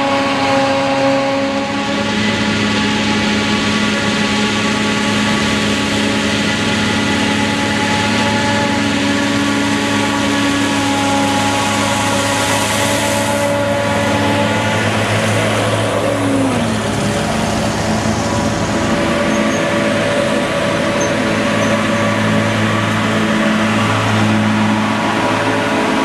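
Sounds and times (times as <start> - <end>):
tractor passing: 0.0 - 26.0.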